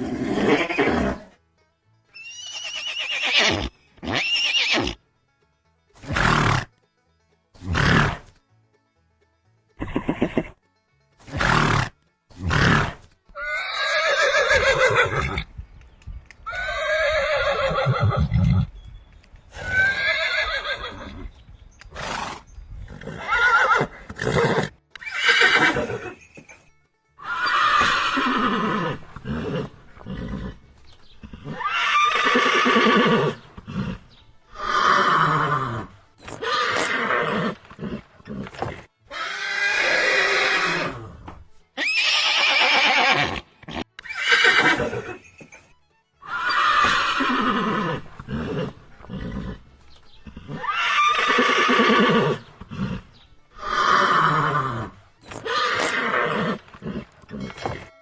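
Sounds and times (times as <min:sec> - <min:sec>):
horses neighing: 0:00.0 - 0:01.4, 0:02.2 - 0:05.0, 0:06.0 - 0:06.7, 0:07.6 - 0:08.3, 0:09.8 - 0:10.6, 0:11.2 - 0:15.5, 0:16.5 - 0:18.7, 0:19.5 - 0:21.3, 0:21.9 - 0:26.6, 0:27.2 - 0:30.6, 0:31.2 - 0:58.0.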